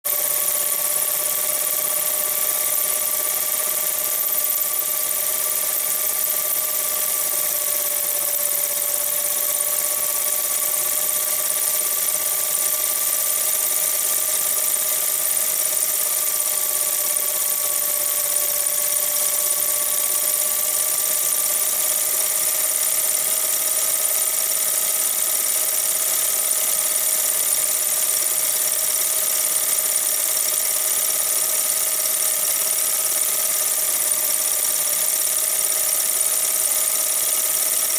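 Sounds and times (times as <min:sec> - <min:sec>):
film projector whirring: 0:00.0 - 0:37.9.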